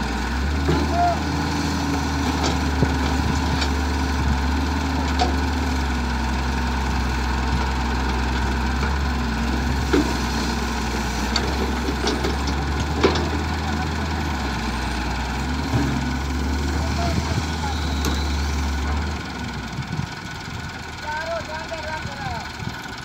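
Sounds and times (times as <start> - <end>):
diesel engines running: 0.0 - 23.0.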